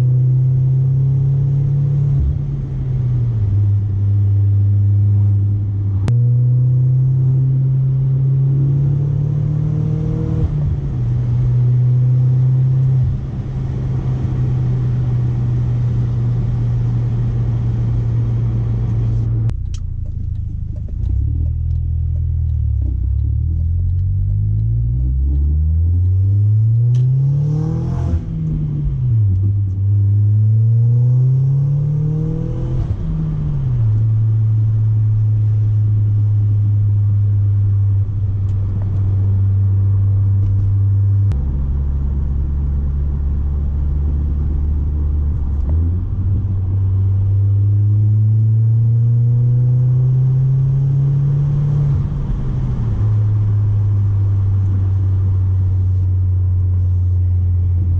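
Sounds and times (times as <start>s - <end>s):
car exhaust revving: 0.0s - 57.9s.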